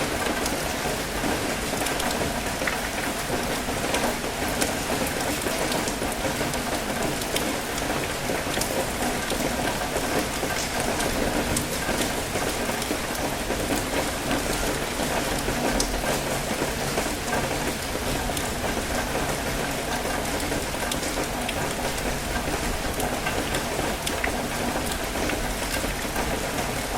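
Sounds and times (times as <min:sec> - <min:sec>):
steady rain falling: 0:00.0 - 0:26.9
raindrops ticking close by: 0:00.1 - 0:26.9.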